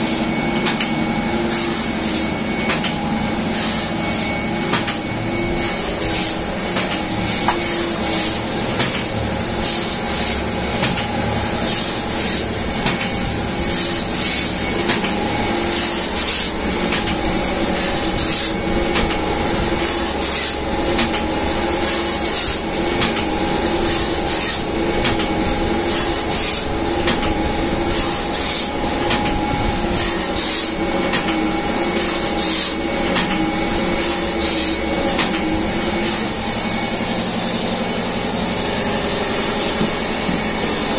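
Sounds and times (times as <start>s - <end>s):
printing press mechanical hum: 0.0s - 40.9s.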